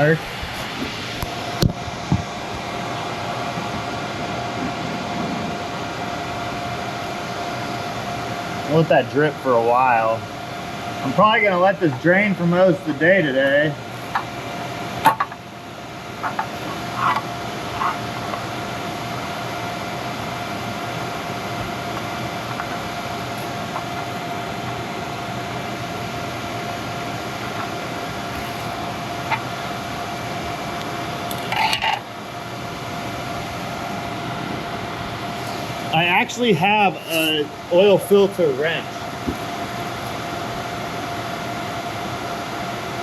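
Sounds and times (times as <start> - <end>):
fan whirring with faint whine: 0.0 - 43.0.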